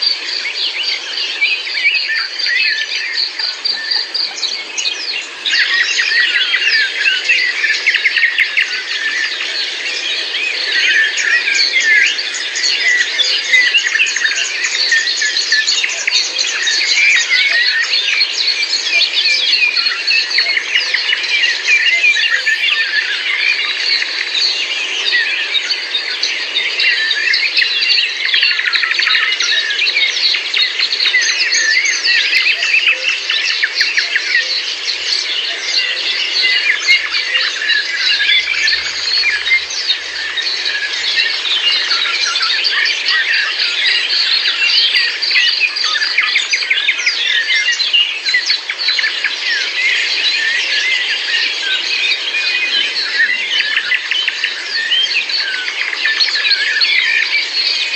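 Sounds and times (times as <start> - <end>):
chorus of songbirds chirping: 0.0 - 57.9.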